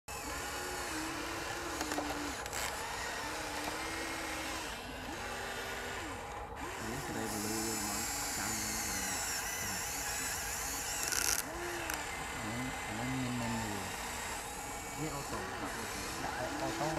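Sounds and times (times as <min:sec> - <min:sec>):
small electric motors whining: 0:00.1 - 0:16.9.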